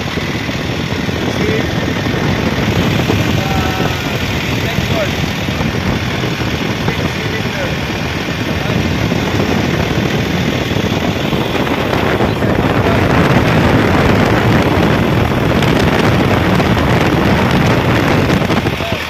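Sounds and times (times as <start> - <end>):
loud diesel engine running: 0.0 - 19.0.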